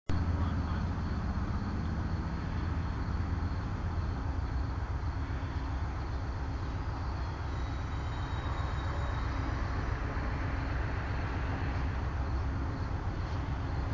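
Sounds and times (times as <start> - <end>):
diesel locomotive engine running: 0.1 - 13.9.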